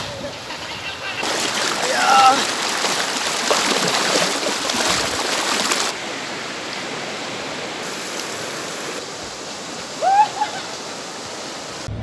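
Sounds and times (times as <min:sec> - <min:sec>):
river rapids rushing: 0:01.2 - 0:11.9.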